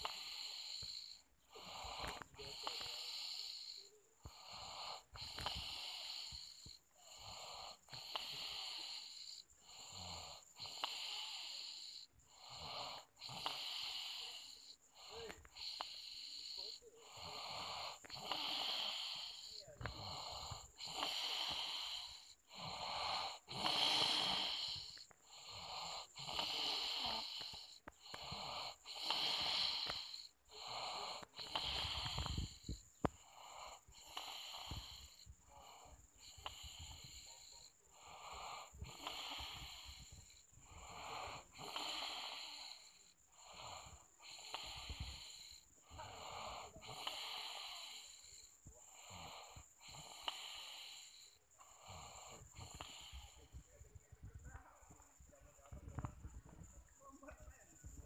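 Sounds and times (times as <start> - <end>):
person snoring: 0.0 - 54.9.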